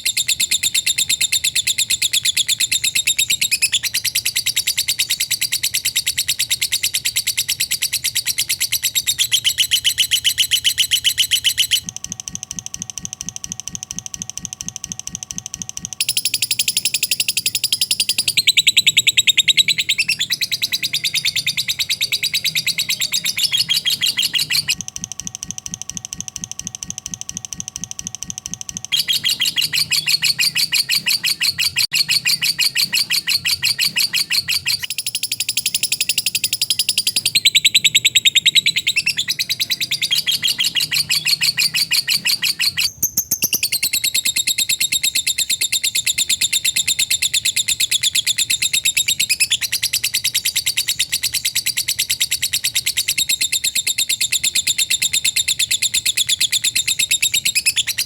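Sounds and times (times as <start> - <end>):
lovebird chattering trill: 0.0 - 11.9, 16.0 - 24.8, 28.9 - 58.0.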